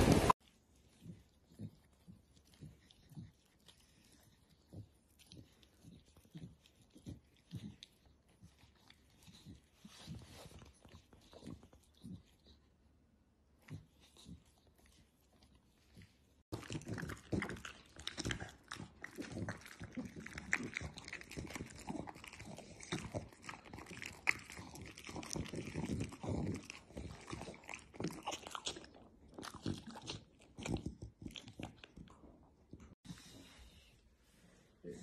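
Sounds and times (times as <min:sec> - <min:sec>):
dog chewing and crunching: 0:00.0 - 0:12.7, 0:13.6 - 0:33.0.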